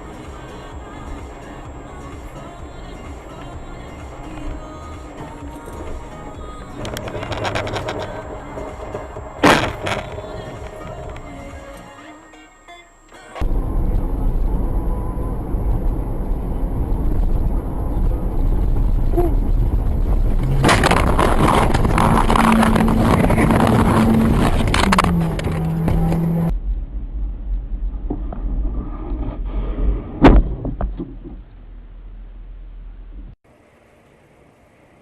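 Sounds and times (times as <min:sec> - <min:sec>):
harsh noise with low tone: 0:00.0 - 0:33.4
car engine and road noise: 0:00.0 - 0:35.0.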